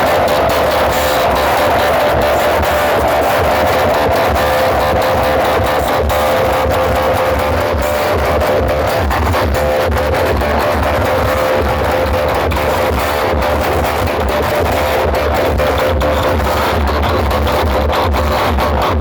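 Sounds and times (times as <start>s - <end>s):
electric guitar: 0.0s - 19.0s
heavy pulsing bass: 0.0s - 19.0s.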